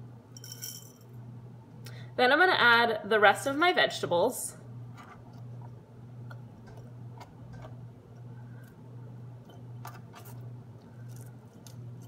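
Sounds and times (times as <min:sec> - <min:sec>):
low pulsing background hum: 0:00.0 - 0:12.0.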